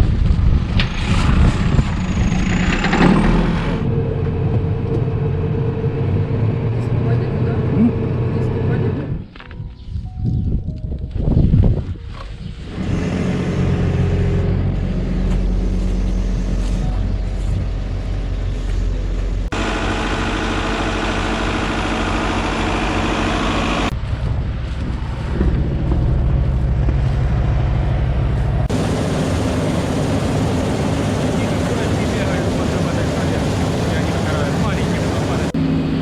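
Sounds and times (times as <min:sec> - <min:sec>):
heavy farm machinery engine: 0:00.0 - 0:09.0, 0:12.6 - 0:36.0.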